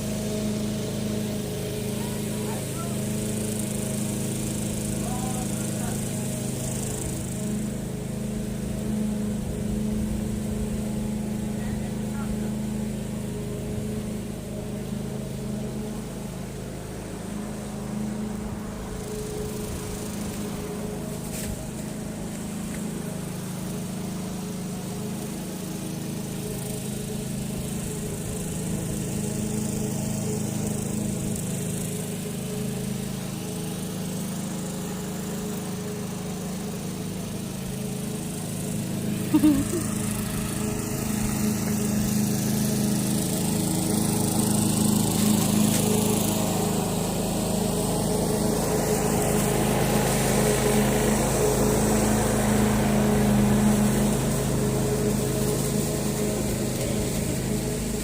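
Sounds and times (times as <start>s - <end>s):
lawnmower engine cutting grass: 0.0s - 58.0s.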